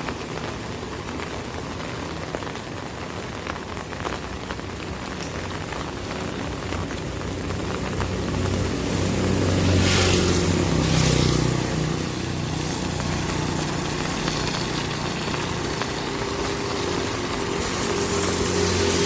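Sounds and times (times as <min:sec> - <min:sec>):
rain on an umbrella: 0:00.0 - 0:19.0.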